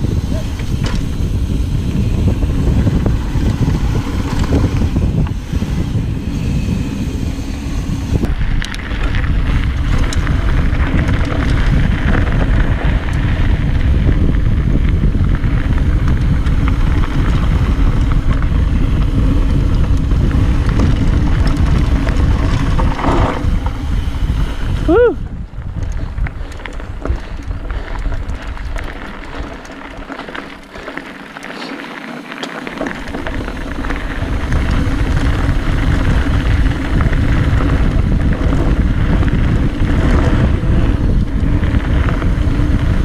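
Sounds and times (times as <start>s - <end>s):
bike clicks and rattles: 0.0s - 43.0s
tyre noise on dirt: 0.0s - 43.0s
wind buffeting microphone: 0.0s - 43.0s.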